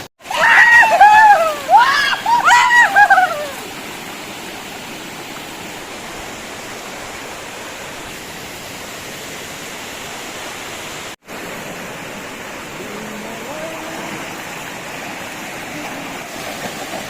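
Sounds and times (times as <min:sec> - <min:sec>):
waterfall roar: 0:00.2 - 0:17.0.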